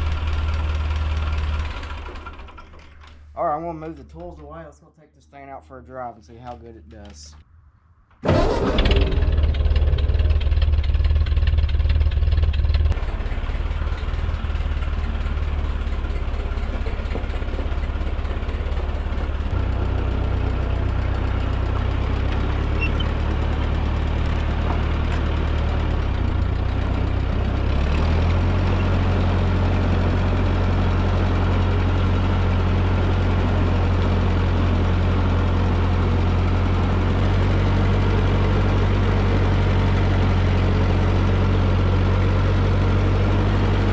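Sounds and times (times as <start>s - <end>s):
tractor engine running: 0.0s - 4.6s, 8.2s - 43.9s.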